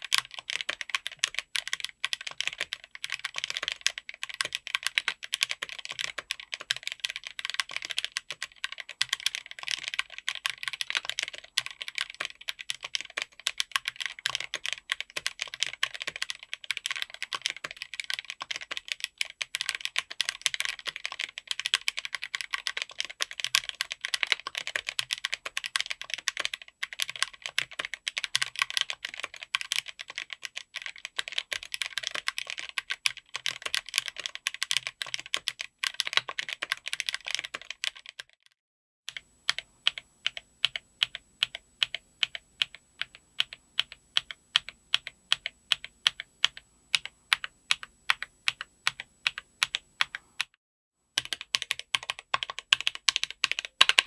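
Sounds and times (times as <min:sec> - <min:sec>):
fast mechanical keyboard typing: 0:00.0 - 0:38.5, 0:39.1 - 0:50.6, 0:51.2 - 0:54.0.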